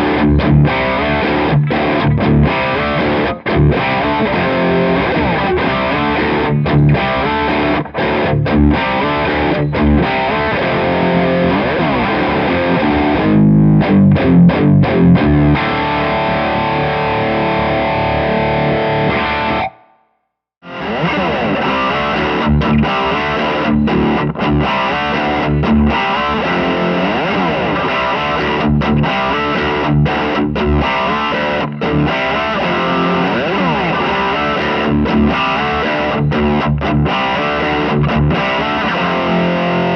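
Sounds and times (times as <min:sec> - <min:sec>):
overdriven electric guitar riff: 0:00.0 - 0:39.9.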